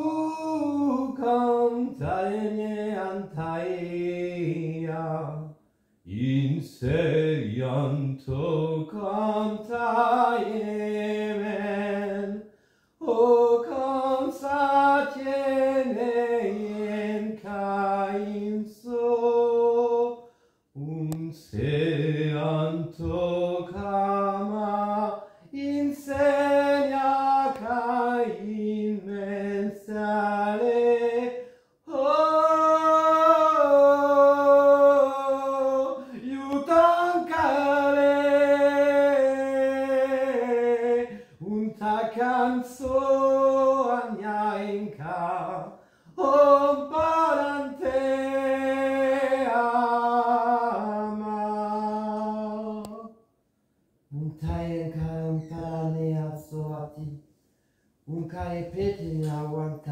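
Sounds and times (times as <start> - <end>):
man chanting unaccompanied: 0.0 - 53.1, 54.1 - 57.2, 58.1 - 59.9.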